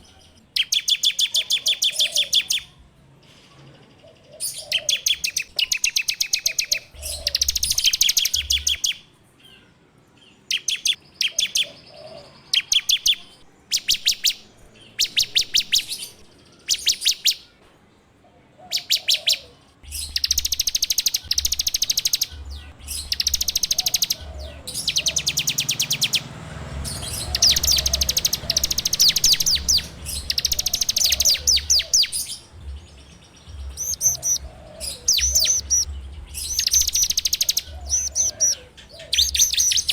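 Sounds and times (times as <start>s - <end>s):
bird trilling song: 0.0s - 17.6s, 18.6s - 39.9s.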